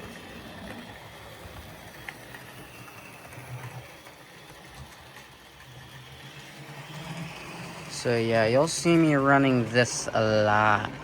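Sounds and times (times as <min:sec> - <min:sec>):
small electric motor whirring: 0:00.0 - 0:09.7
wheels rolling over rails: 0:00.0 - 0:11.0.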